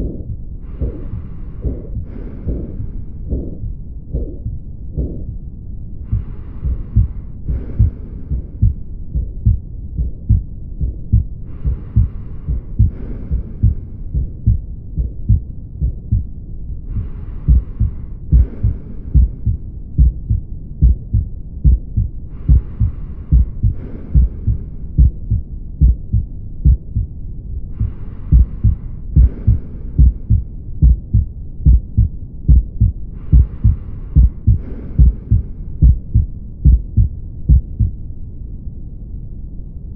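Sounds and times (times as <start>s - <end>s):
heartbeat through stethoscope: 0.0s - 38.0s.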